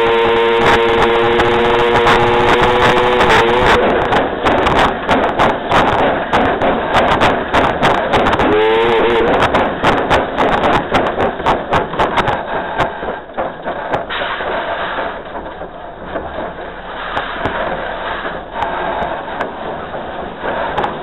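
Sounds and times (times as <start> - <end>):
steam train rolling on track: 0.0 - 21.0
train clanks and knocks: 0.0 - 21.0.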